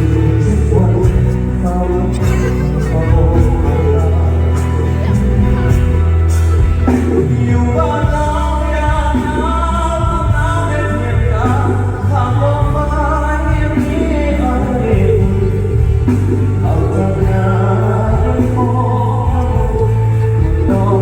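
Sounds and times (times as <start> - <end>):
live band playing: 0.0 - 21.0
person singing: 0.0 - 21.0
steady bass line: 0.0 - 21.0.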